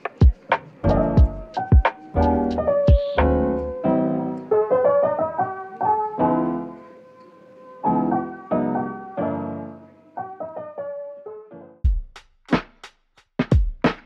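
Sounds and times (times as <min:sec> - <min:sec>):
soft piano tune: 0:00.0 - 0:11.8.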